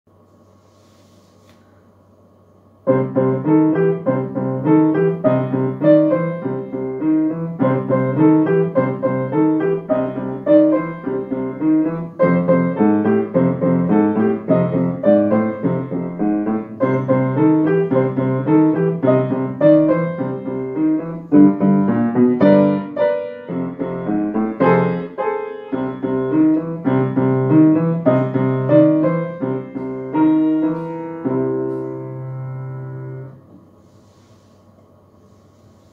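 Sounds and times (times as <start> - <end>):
blues piano piece: 2.8 - 33.4.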